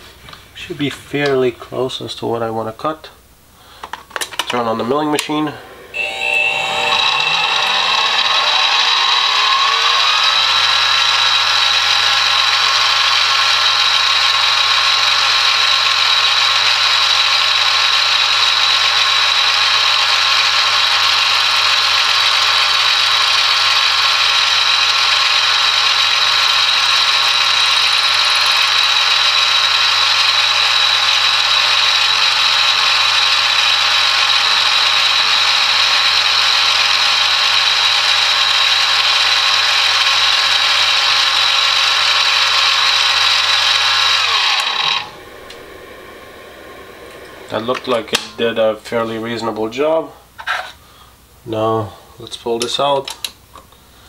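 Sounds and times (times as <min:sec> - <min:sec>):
milling machine motor whine: 0:05.2 - 0:49.0.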